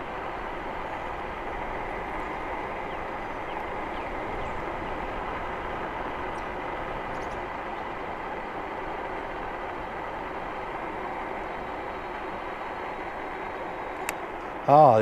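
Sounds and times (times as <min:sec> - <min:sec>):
electric bike motor whine: 0:00.0 - 0:15.0
tyres rolling on road: 0:00.0 - 0:15.0.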